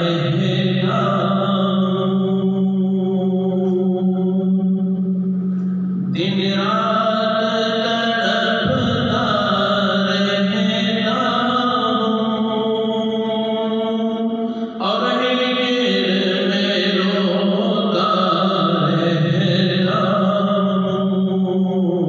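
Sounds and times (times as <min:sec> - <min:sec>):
man chanting into microphone: 0:00.0 - 0:05.1, 0:06.0 - 0:22.0.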